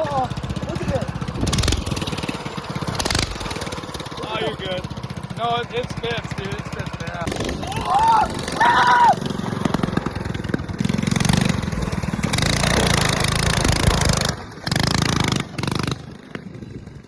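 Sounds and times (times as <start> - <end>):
small gas engine revving: 0.0 - 17.0.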